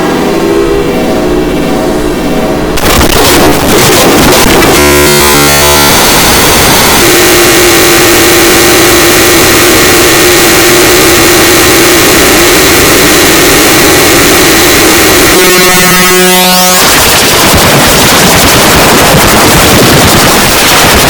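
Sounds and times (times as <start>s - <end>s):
constant hum: 0.0s - 21.0s
loud distorted noise: 0.0s - 21.0s.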